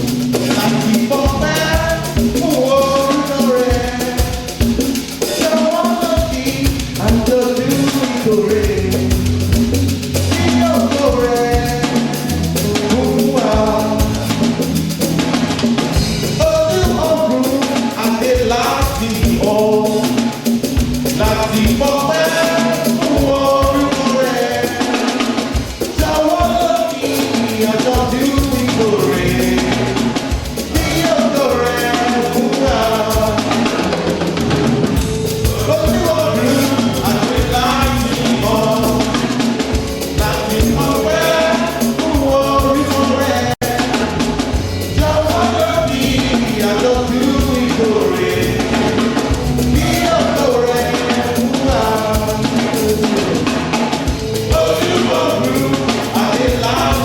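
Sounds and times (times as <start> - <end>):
band with drums and bass: 0.0 - 57.0
voices singing praise song: 0.0 - 57.0.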